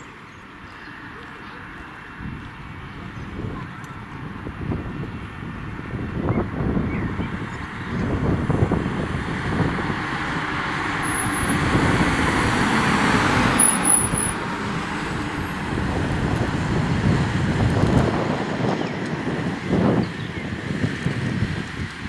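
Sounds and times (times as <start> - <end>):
fire engine driving past: 0.0 - 22.0.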